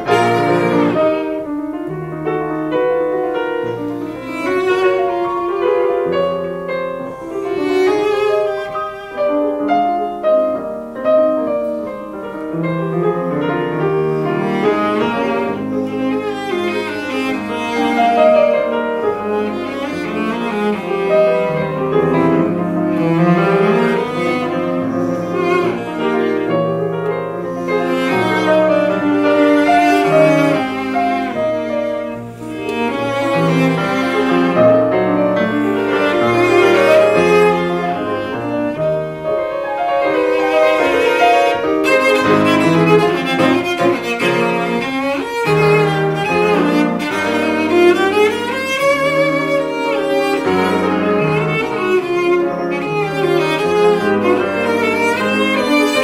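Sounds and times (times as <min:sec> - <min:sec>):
bowed cello melody: 0:00.0 - 0:56.0
piano accompaniment: 0:00.0 - 0:56.0.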